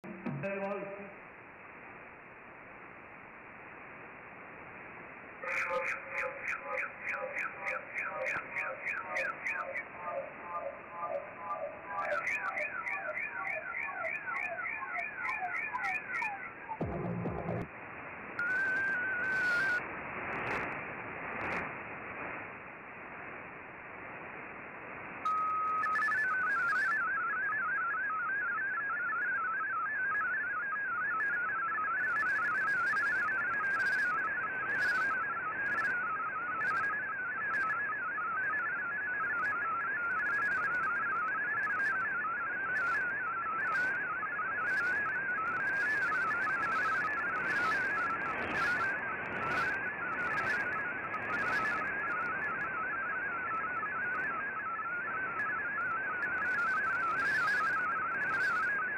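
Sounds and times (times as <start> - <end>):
radio band hiss: 0.0 - 27.1, 31.1 - 58.9
warbling digital radio tones: 5.4 - 17.7, 18.4 - 19.9, 25.3 - 58.9.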